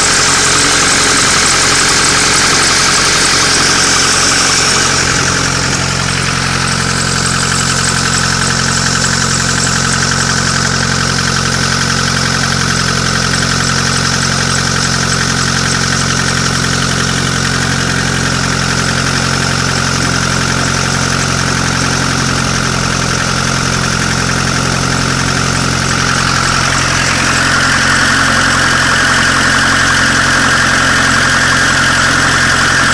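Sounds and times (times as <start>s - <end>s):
engine knock: 0.0s - 32.9s
vehicle engine idling: 0.0s - 32.9s.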